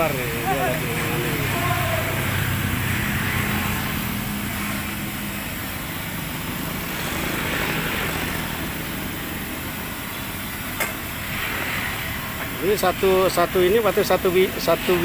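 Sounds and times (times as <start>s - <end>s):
frying oil hissing: 0.0s - 15.0s.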